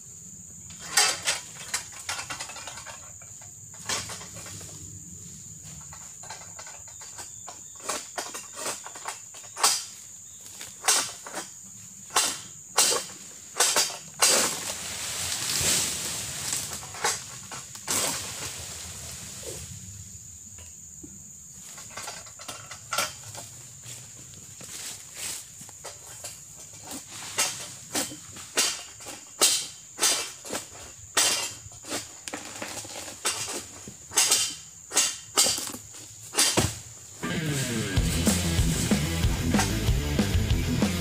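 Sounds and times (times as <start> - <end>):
high insect buzz: 0.0 - 41.0
rustling of palm fronds: 0.7 - 20.3, 21.5 - 37.6.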